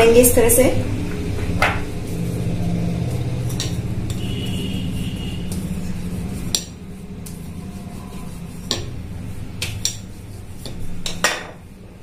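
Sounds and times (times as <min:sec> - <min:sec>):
low hum: 0:00.0 - 0:12.0
rolling pin rolling dough: 0:01.7 - 0:12.0.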